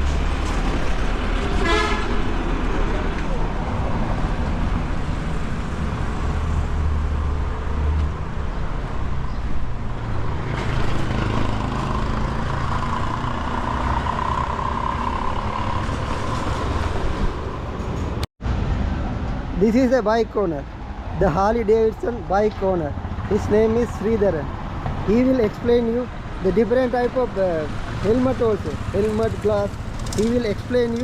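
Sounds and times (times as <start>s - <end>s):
vehicle engines passing: 0.0s - 31.0s.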